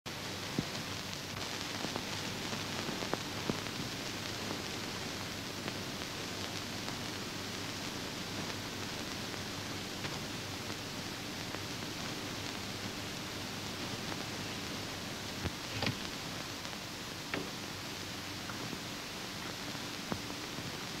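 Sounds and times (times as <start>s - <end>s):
old film soundtrack hiss: 0.1s - 21.0s.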